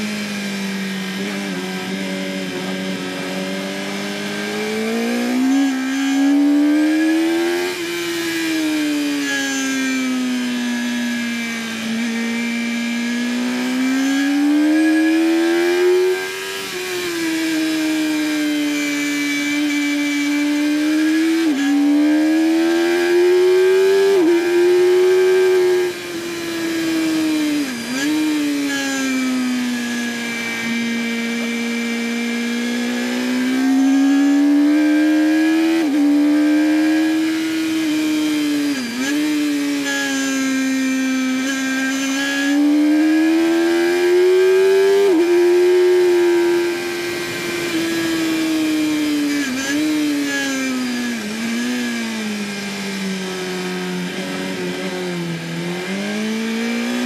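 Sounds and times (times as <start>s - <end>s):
motorcycle engine at racing speed: 0.0s - 57.0s.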